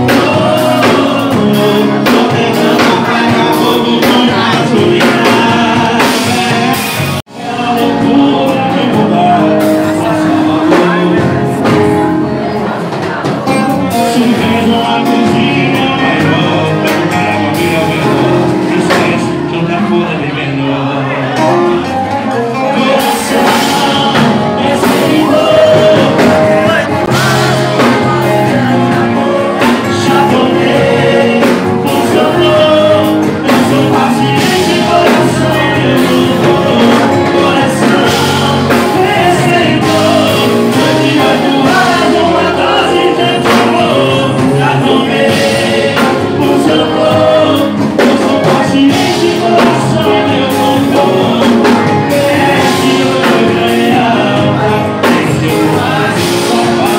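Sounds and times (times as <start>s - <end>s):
steady beat: 0.0s - 19.7s, 21.4s - 56.9s
duo singing live: 0.0s - 56.9s
guitar: 0.0s - 56.9s.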